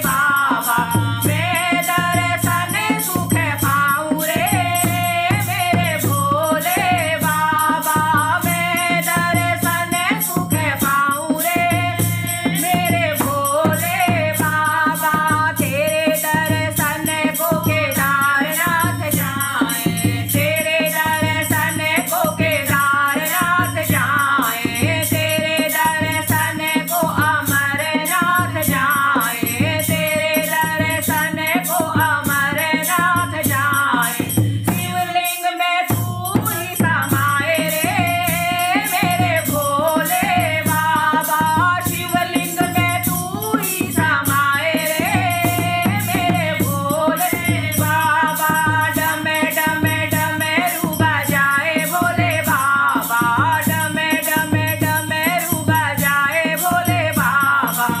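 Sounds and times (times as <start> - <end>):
person singing devotional song: 0.0 - 58.0.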